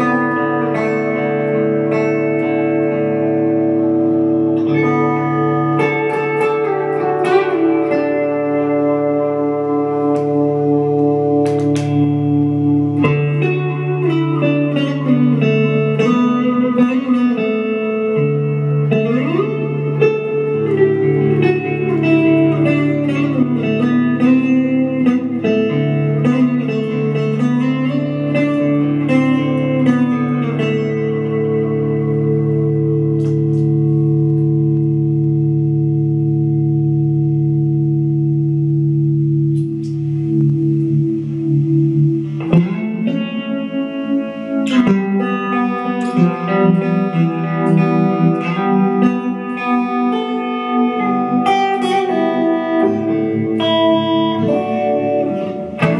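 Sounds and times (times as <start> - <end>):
electric guitar melody: 0.0 - 55.9.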